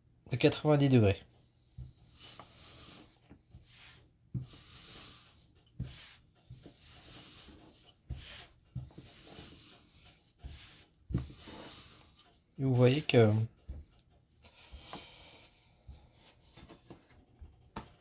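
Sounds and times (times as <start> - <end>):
rolling pin rubbing over dough: 0.6 - 18.0.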